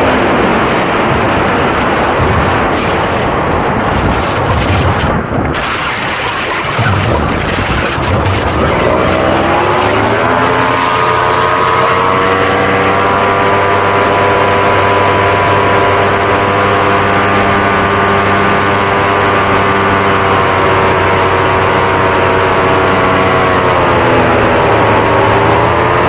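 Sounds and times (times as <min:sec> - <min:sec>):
paramotor engine droning: 0:00.0 - 0:26.0.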